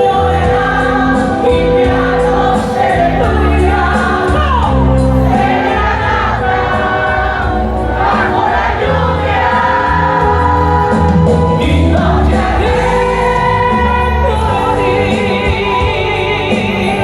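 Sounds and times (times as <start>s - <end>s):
ballad with vocals: 0.0s - 17.0s.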